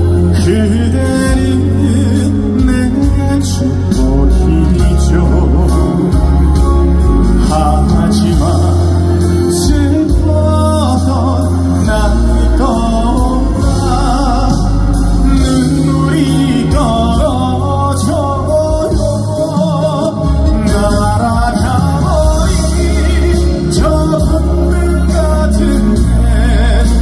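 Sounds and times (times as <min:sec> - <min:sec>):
band playing ballad: 0:00.0 - 0:27.0
man singing: 0:00.0 - 0:27.0.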